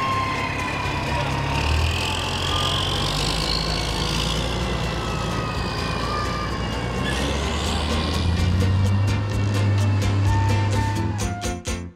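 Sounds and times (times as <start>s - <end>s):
fire engine pulling away: 0.0s - 11.6s.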